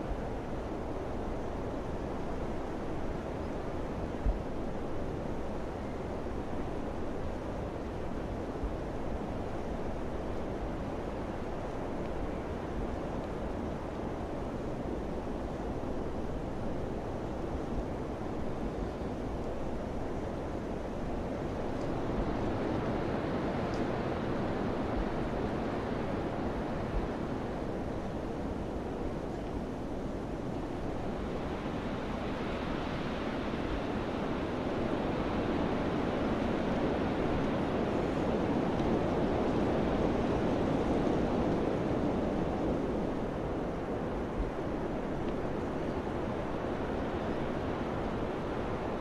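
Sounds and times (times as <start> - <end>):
wind blowing in gusts: 0.0 - 49.0.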